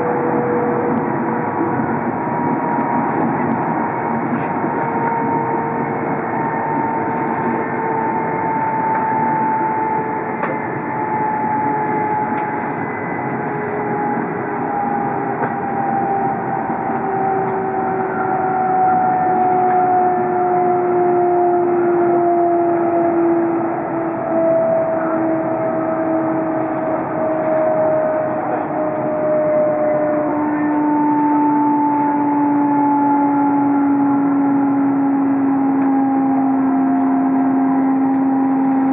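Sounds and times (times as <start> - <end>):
train rushing running noise: 0.0 - 38.9.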